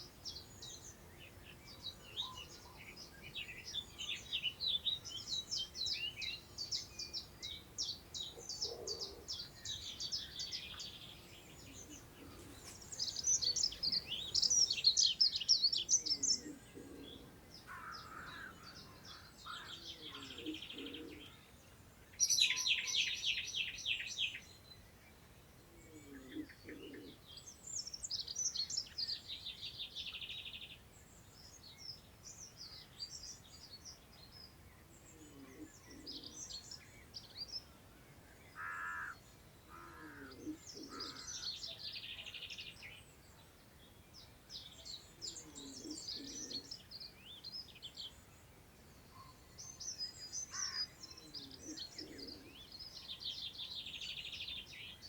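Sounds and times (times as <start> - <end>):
songbirds singing: 0.0 - 55.0
wind in long grass: 0.0 - 55.0.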